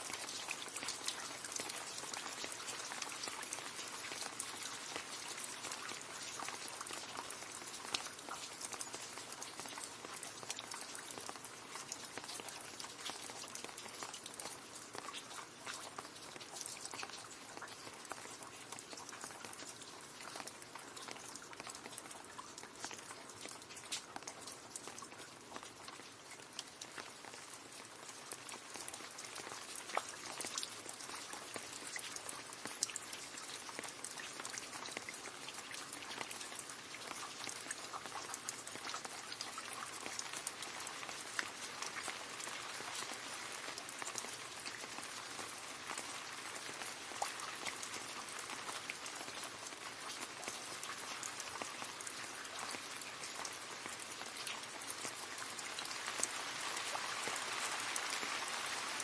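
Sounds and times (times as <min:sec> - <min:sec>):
rain splashing into puddle: 0:00.0 - 0:59.0.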